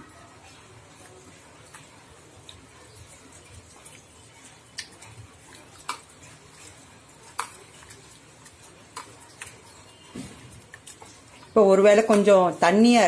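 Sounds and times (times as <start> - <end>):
prawns mixed by hand in marinade: 0.0 - 13.0.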